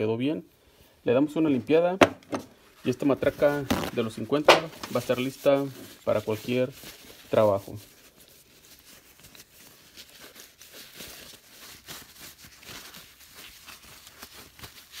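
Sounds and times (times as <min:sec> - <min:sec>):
paper towel rustling: 0:01.1 - 0:15.0.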